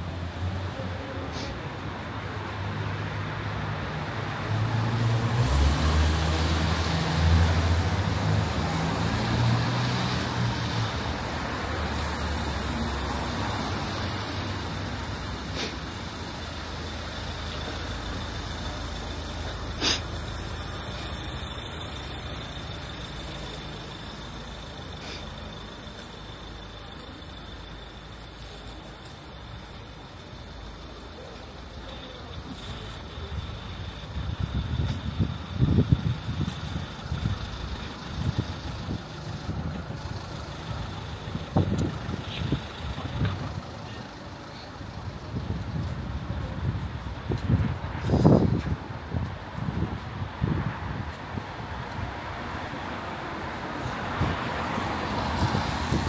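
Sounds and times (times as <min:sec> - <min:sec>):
heavy vehicle engine rumbling: 0:00.0 - 0:56.0
street traffic: 0:00.0 - 0:56.0.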